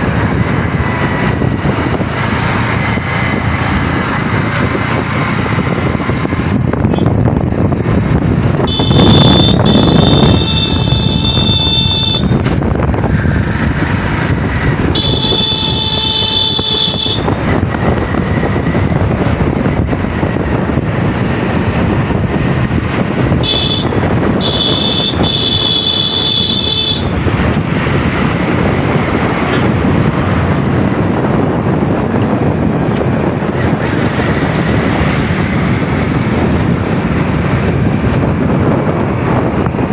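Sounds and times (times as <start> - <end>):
vehicle road noise: 0.0 - 39.9
wind buffeting microphone: 0.0 - 39.9.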